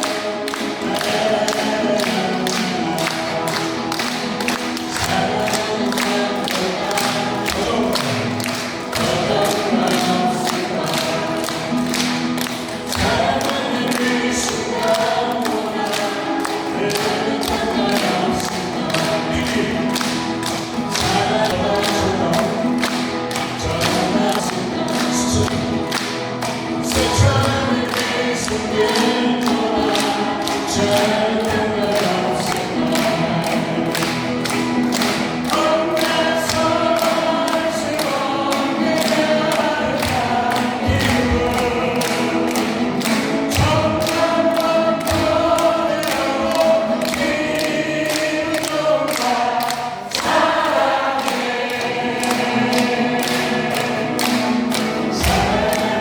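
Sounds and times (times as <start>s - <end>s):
accompaniment with steady beat: 0.0s - 56.0s
voices singing: 0.0s - 56.0s.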